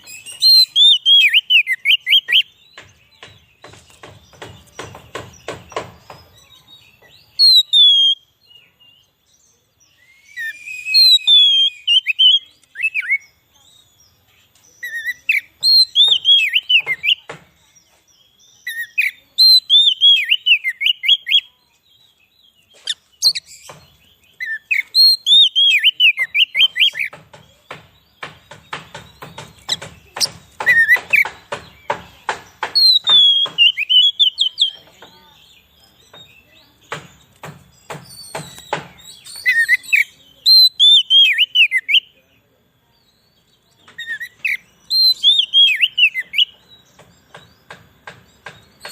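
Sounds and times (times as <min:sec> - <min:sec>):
bird singing whistled notes: 0:00.0 - 0:48.9.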